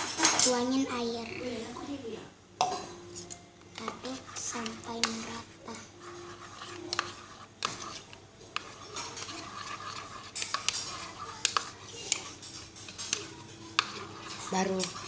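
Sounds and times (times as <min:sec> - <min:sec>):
spoon stirring batter: 0:02.6 - 0:15.0.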